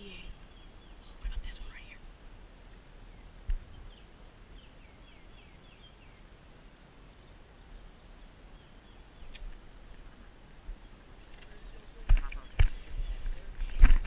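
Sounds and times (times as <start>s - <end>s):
bird chirping: 0.0s - 14.0s
faint background noise: 0.0s - 14.0s.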